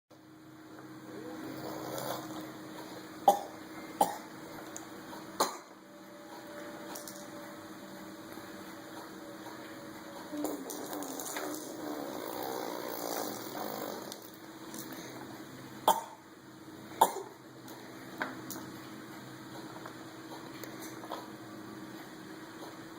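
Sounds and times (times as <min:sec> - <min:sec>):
steady low hum: 0:00.1 - 0:22.9.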